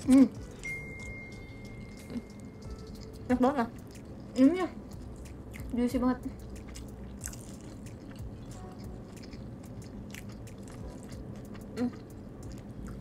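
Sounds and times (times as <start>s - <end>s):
chewing and crunching: 0.0s - 13.0s.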